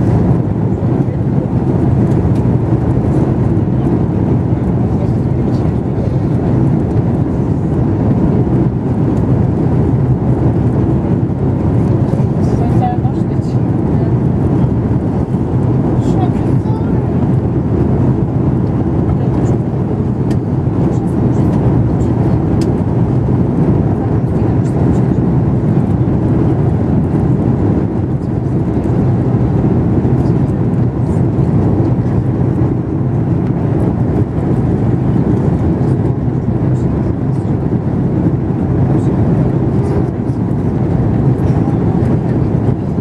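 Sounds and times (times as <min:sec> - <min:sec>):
airliner cabin engine noise: 0:00.0 - 0:43.0.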